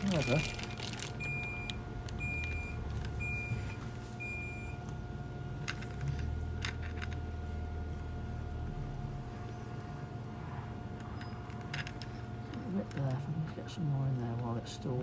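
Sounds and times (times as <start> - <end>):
equipment whine and hum: 0.0 - 15.0.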